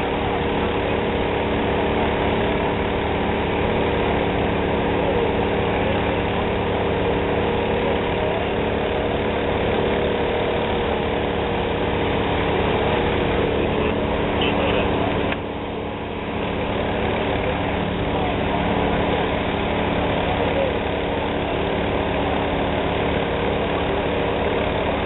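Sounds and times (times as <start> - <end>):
fire engine pump engine running: 0.0 - 25.0.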